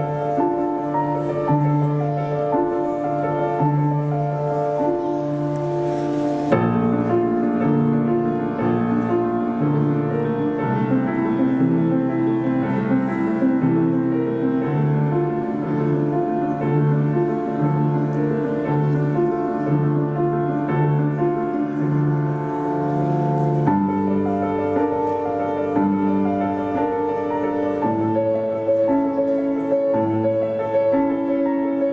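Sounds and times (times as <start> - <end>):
instrumental piano music: 0.0 - 31.9.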